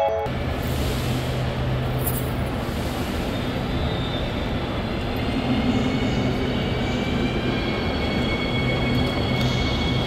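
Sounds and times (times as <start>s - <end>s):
train rumble: 0.3s - 10.0s.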